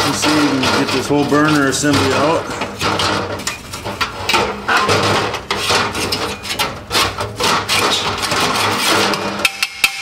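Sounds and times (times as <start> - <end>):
metal scraping and rubbing: 0.0 - 10.0.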